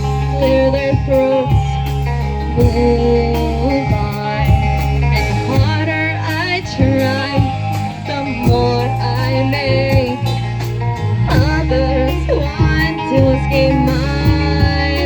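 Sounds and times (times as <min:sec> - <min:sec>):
live band playing: 0:00.0 - 0:15.0
steady drum beat: 0:00.0 - 0:15.0
wavering lead line: 0:00.0 - 0:15.0.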